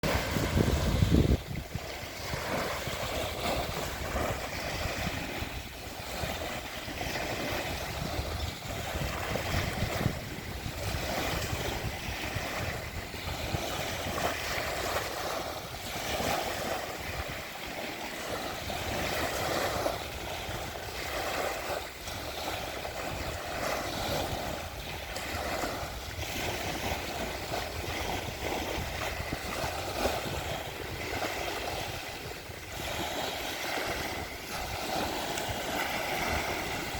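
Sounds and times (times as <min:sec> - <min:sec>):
waves breaking on shore: 0:00.0 - 0:36.9
wind on microphone: 0:00.0 - 0:36.9.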